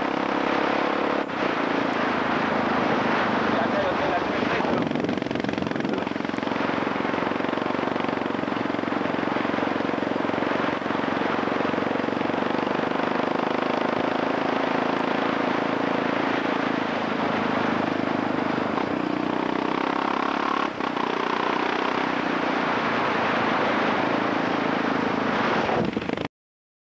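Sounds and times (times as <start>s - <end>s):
motorcycle engine running: 0.0s - 26.3s
steady rush of noise: 0.0s - 26.3s.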